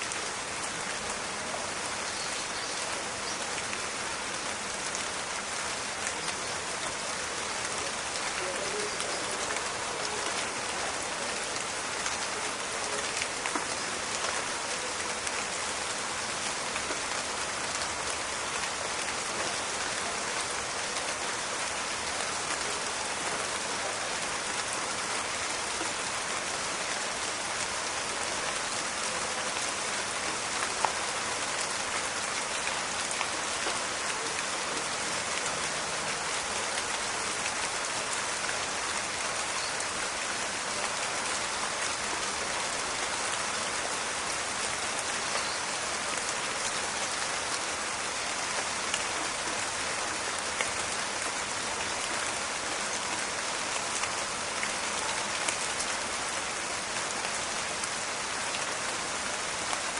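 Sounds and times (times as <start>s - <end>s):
rain falling in forest: 0.0s - 59.9s.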